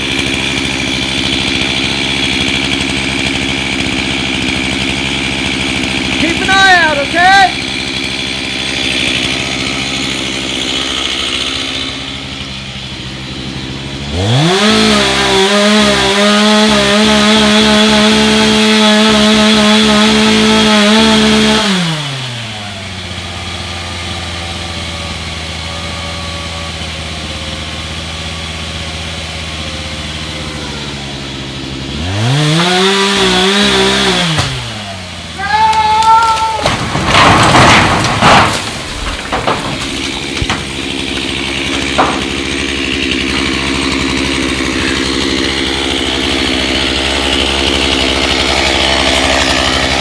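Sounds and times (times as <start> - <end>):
chainsaw revving and cutting wood: 0.0 - 50.0.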